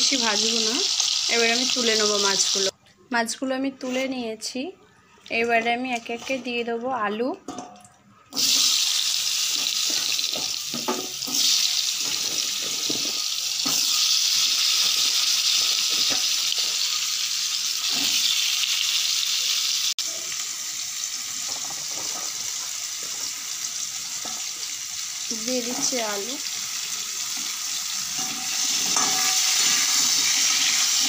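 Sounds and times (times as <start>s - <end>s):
hot oil sizzling: 0.0s - 2.8s, 8.3s - 31.0s.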